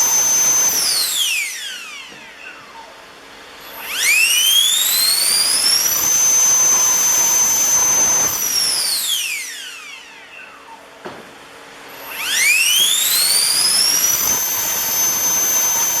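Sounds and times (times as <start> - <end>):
electric ducted fan whine: 0.0 - 16.0.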